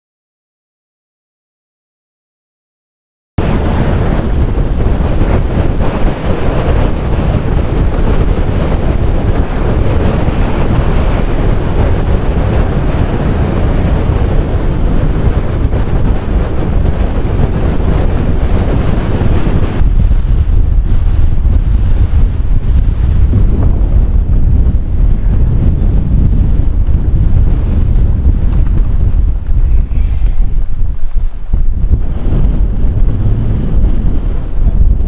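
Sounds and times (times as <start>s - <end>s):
strong wind on microphone: 3.4s - 35.0s.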